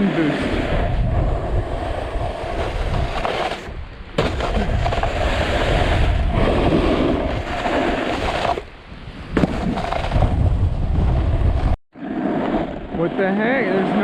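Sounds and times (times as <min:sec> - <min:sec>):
wind buffeting microphone: 0:00.0 - 0:11.8
snowboard scraping on snow: 0:00.0 - 0:14.0.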